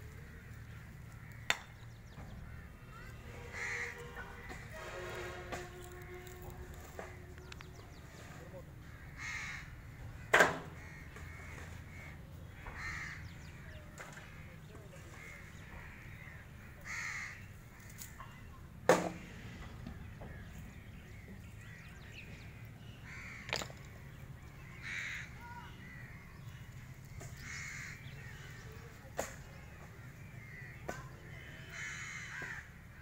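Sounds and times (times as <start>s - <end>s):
crows cawing: 0.1s - 1.8s, 2.4s - 5.0s, 8.8s - 18.4s, 20.3s - 33.0s.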